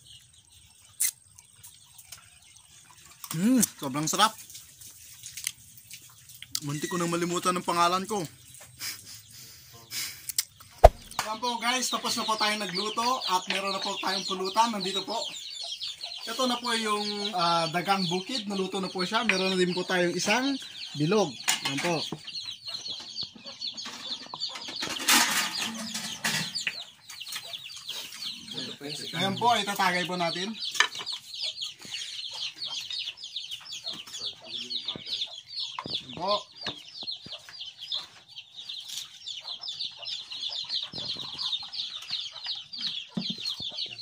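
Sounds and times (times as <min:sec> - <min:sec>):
chickens clucking and peeping: 0:00.0 - 0:44.0
small birds chirping: 0:00.0 - 0:44.0.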